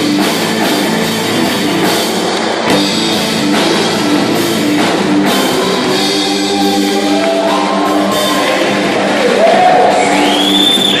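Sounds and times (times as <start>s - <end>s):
crowd noise: 0.0s - 11.0s
live band held chord: 0.0s - 11.0s.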